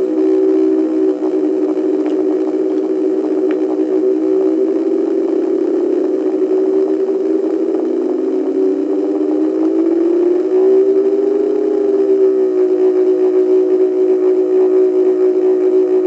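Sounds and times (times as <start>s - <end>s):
electronic tones droning: 0.0s - 16.0s.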